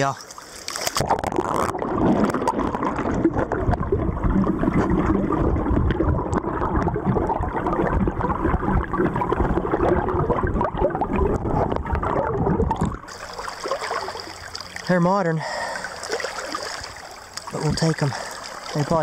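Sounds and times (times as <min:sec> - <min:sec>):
muffled underwater river rush: 0:00.0 - 0:19.0.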